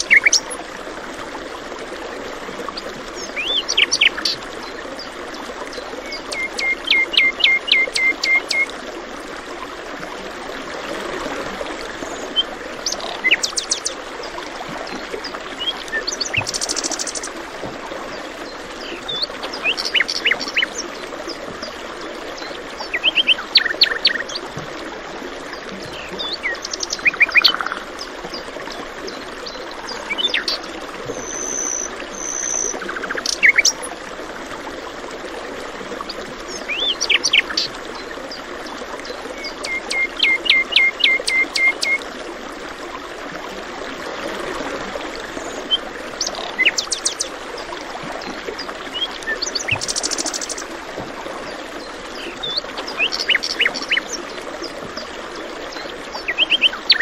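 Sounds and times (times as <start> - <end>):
flowing stream water: 0.0 - 57.0.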